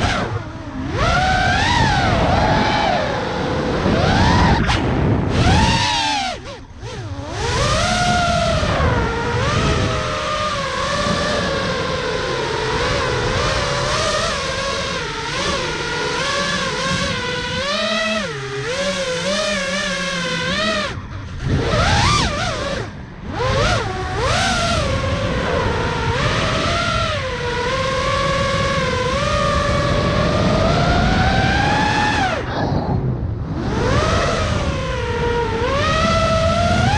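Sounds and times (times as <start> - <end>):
quadcopter motors whining: 0.0 - 36.9
wind rushing past camera: 0.0 - 36.9.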